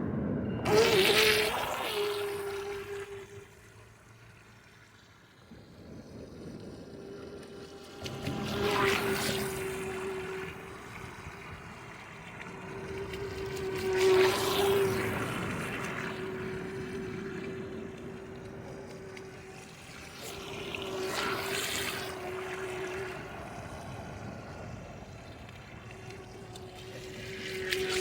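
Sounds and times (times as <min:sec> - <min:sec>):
electric motor high whine: 0:00.0 - 0:04.2, 0:06.8 - 0:28.0.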